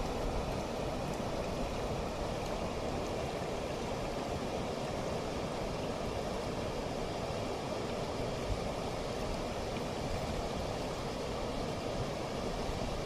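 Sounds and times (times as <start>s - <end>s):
water rushing over cascade: 0.0s - 13.0s.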